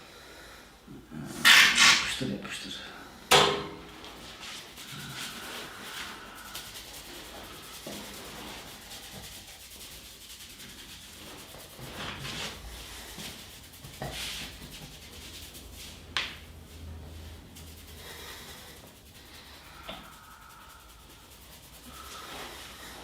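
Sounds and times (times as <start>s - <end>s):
hands rubbing skin and hair: 3.9s - 23.0s.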